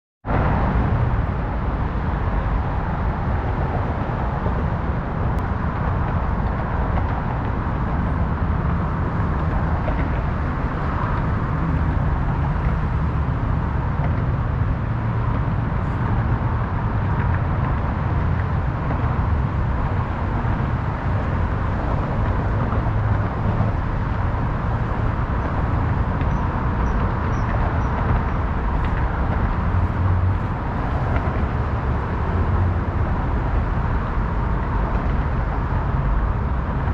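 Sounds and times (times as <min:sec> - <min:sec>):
road traffic rushing: 0:00.2 - 0:36.9.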